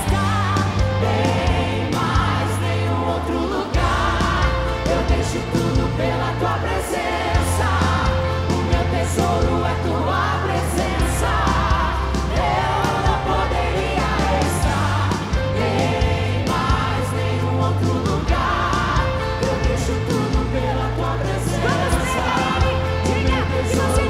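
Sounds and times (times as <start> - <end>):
backing singers: 0.0 - 24.0
bass notes: 0.0 - 24.0
lead singer: 0.0 - 24.0.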